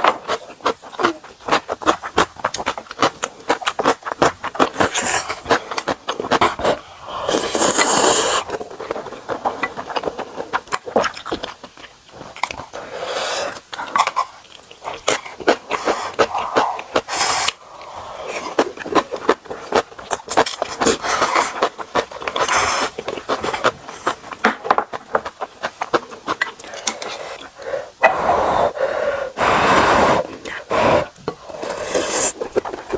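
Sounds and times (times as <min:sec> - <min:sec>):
noodles slurped: 0:00.0 - 0:24.4, 0:25.2 - 0:32.9
wet chewing: 0:00.0 - 0:27.8, 0:30.3 - 0:32.9.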